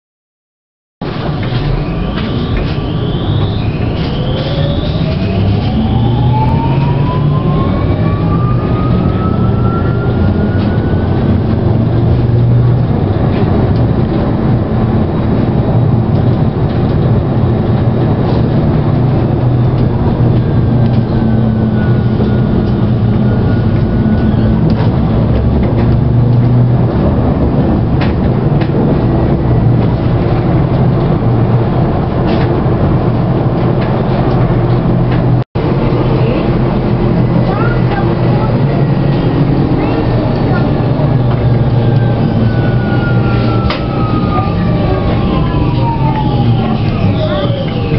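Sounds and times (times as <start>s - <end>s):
tram wheels rumbling on rail: 1.0s - 47.9s
traction motors whining: 1.1s - 47.9s.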